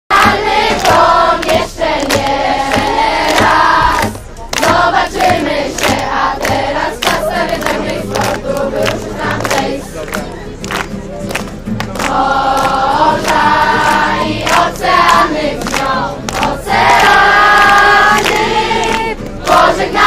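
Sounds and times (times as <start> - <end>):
children singing in unison: 0.1 - 9.9, 12.1 - 20.0
rhythmic hand claps: 0.1 - 20.0.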